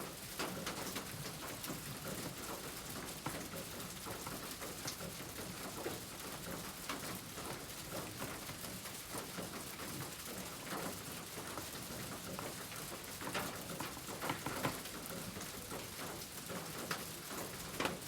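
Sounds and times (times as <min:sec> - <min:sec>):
steady rain patter: 0:00.0 - 0:18.0.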